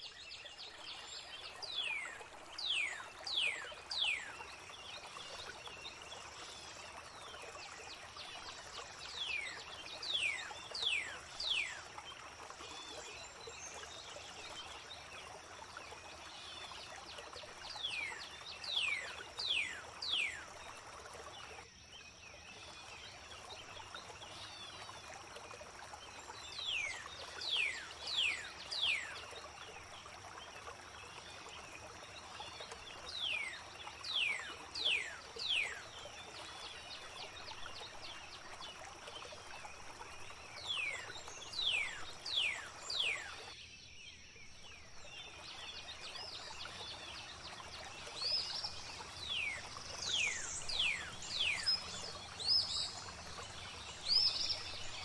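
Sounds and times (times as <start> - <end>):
trickle of flowing water: 0.0 - 55.0.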